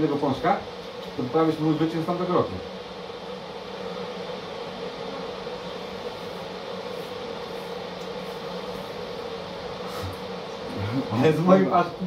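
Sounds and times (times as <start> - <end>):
low mechanical hum: 0.0 - 12.0
steady hiss: 0.0 - 12.0.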